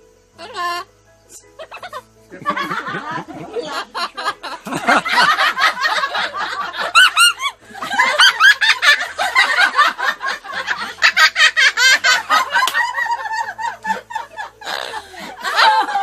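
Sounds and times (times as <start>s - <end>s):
parrot cackling laughter: 1.6s - 16.0s.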